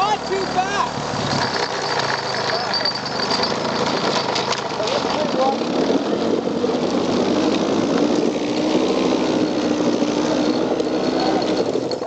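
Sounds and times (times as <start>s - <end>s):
atv engine revving hard: 0.0s - 12.0s
tires spinning: 0.0s - 12.0s.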